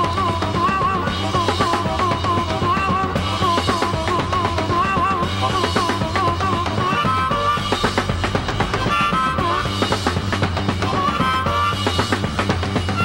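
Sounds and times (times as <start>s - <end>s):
harmonica wailing solo: 0.0s - 13.0s
rock drum beat: 0.0s - 13.0s.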